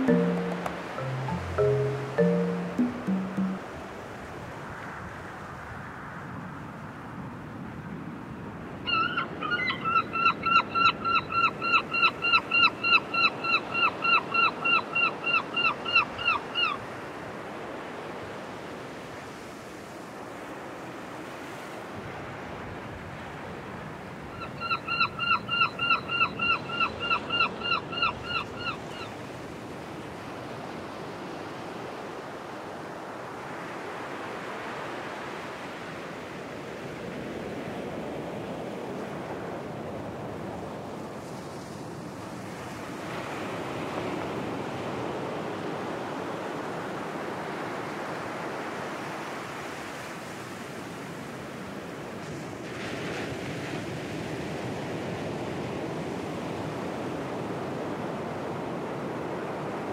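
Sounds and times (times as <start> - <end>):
surf washing on a beach: 0.0 - 9.5, 10.9 - 24.4, 25.6 - 59.9.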